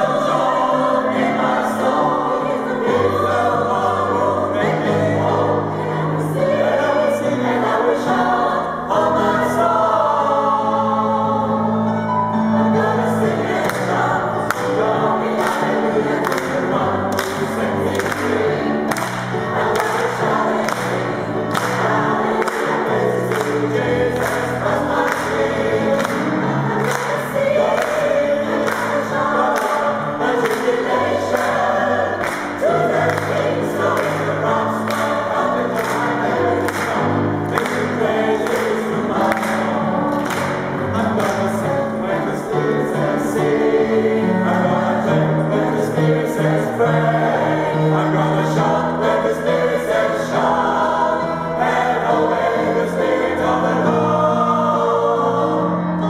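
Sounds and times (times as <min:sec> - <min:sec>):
mixed choir singing in harmony: 0:00.0 - 0:56.0.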